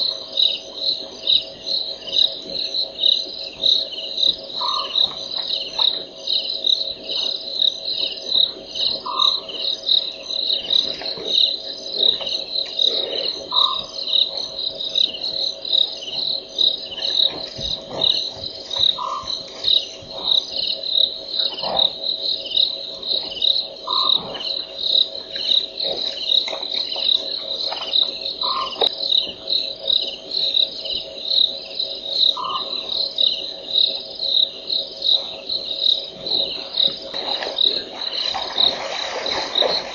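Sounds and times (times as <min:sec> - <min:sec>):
crickets chirping: 0:00.0 - 0:39.9
short lower insect call: 0:00.0 - 0:39.9.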